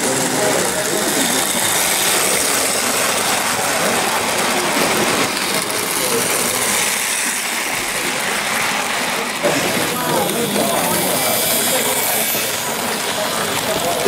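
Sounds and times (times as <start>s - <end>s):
crowd chatter: 0.0s - 14.0s
model trains whirring and rattling: 0.0s - 14.0s.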